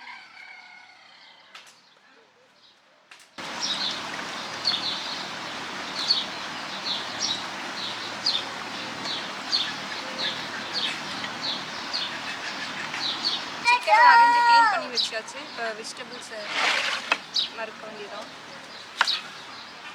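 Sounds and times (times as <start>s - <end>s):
steady background hiss: 3.4s - 19.9s.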